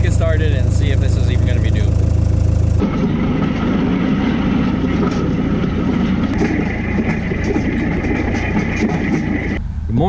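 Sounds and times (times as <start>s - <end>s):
diesel tractor running: 0.0s - 10.0s
steady high whine: 0.0s - 10.0s.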